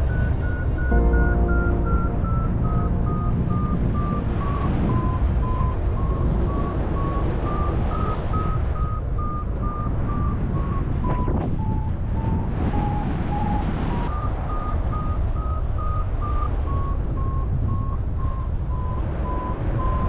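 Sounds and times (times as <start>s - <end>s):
variometer beeping: 0.0s - 20.0s
wind rush on microphone: 0.0s - 20.0s.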